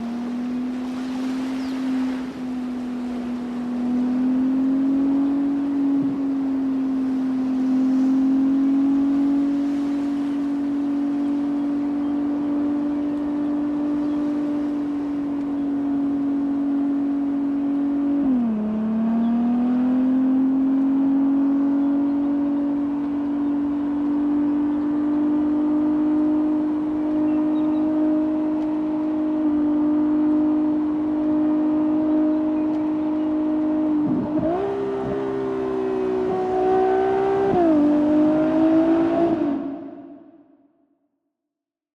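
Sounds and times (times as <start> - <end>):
car engine at high revs: 0.0 - 40.5.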